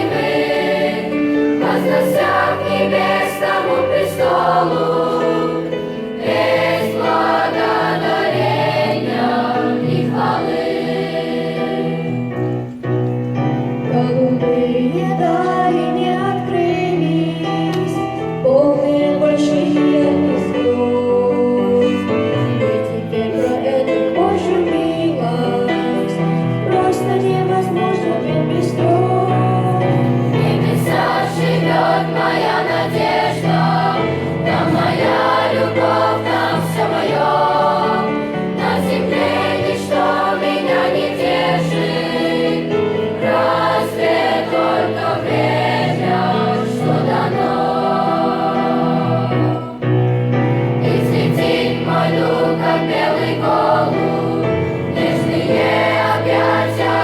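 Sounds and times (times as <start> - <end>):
children's choir singing a hymn: 0.0 - 57.0.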